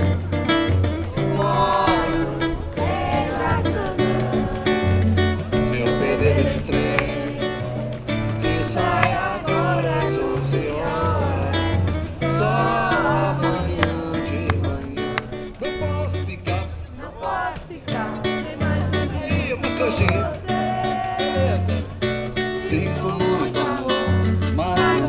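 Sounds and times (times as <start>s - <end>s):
acoustic guitar strummed: 0.0s - 25.0s
man singing: 1.2s - 25.0s.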